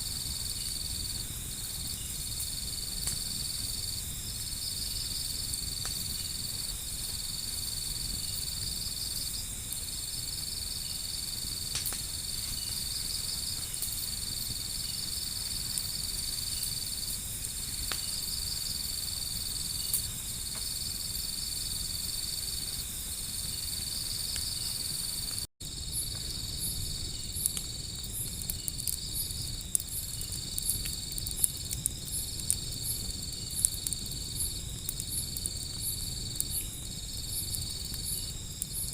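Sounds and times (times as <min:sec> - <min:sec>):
crickets trilling: 0:00.0 - 0:38.9
wood fire crackling pops: 0:00.0 - 0:38.9.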